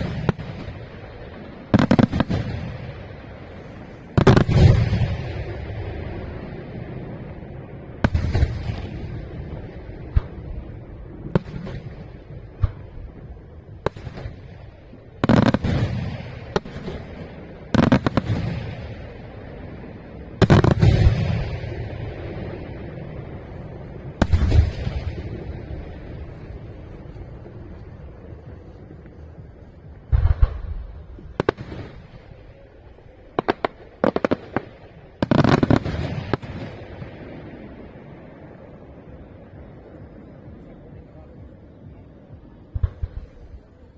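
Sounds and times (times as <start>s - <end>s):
rapid firework bangs: 0.0s - 6.7s, 8.0s - 38.3s
lingering rumble: 0.0s - 43.9s.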